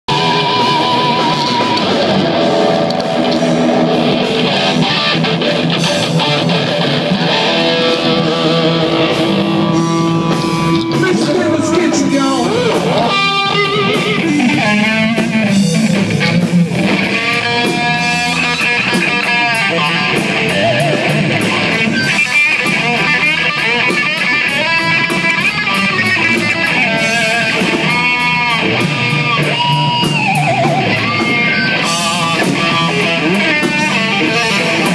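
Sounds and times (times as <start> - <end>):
electric guitar lead with bends: 0.1 - 34.9.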